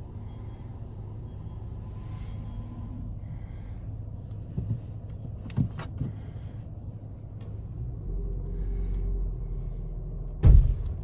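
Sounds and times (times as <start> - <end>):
car engine hum from inside: 0.0 - 11.0.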